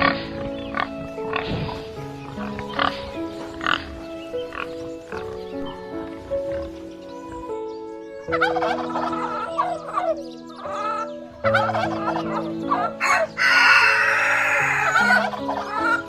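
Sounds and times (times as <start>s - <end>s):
harsh poultry call: 0.0s - 5.3s, 8.2s - 16.0s
music with held notes: 0.0s - 16.0s
poultry warbling calls: 0.0s - 16.0s.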